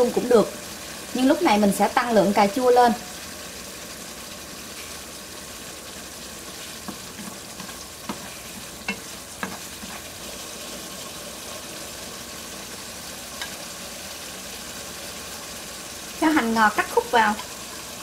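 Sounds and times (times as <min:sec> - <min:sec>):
sauce sizzling in a wok: 0:00.0 - 0:18.0.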